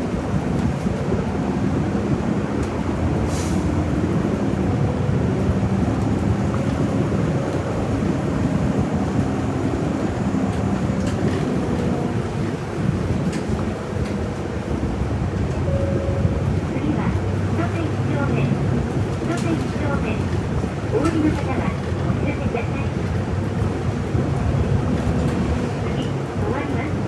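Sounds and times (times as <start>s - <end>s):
bus engine rumbling: 0.0s - 27.0s
road noise: 0.0s - 27.0s.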